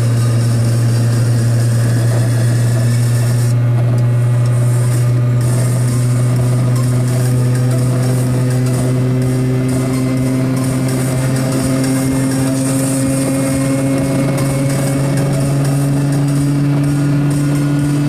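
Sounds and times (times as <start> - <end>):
small two-stroke engine running: 0.0 - 18.0.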